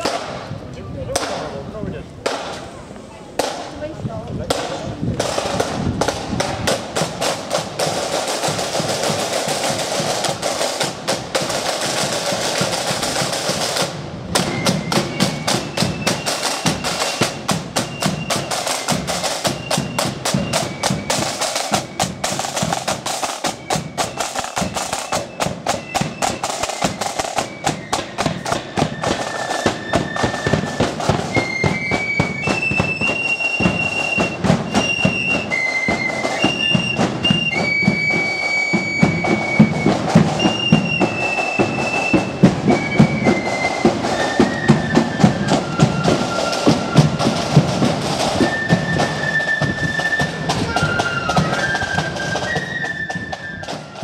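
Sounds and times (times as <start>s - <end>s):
side drums playing: 4.5s - 53.0s
flutes playing high melody: 8.2s - 54.0s.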